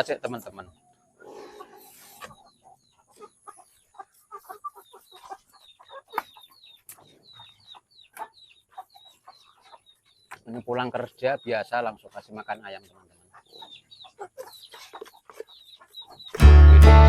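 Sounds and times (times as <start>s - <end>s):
chickens clucking: 0.0s - 17.0s
chicks peeping: 0.2s - 17.0s.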